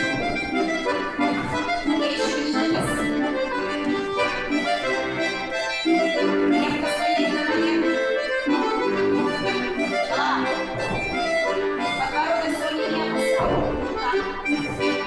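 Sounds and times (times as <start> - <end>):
accordion playing chords: 0.0 - 15.0.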